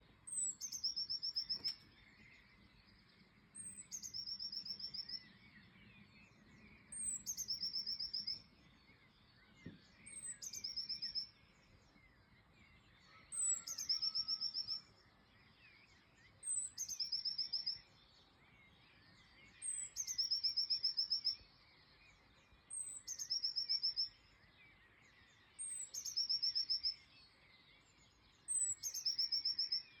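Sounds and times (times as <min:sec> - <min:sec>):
faint bird chirps: 0:00.0 - 0:30.0
songbird singing trill: 0:00.0 - 0:30.0.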